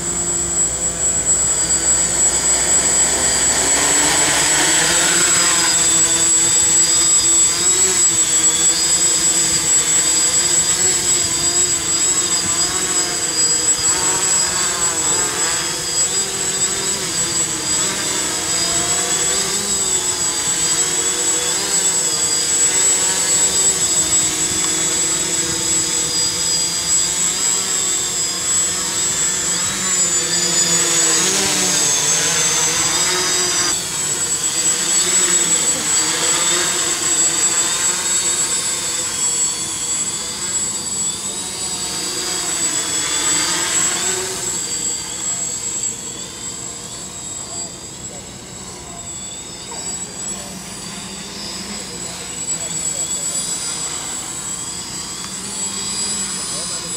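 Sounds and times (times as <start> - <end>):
quadcopter motors buzzing: 0.0 - 56.9
steady high whine: 0.0 - 56.9.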